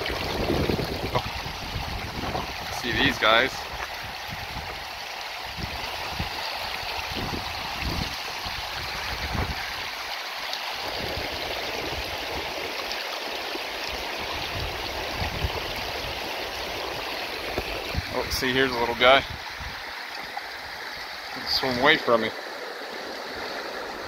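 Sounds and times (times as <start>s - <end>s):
creek babbling over stones: 0.0s - 24.0s.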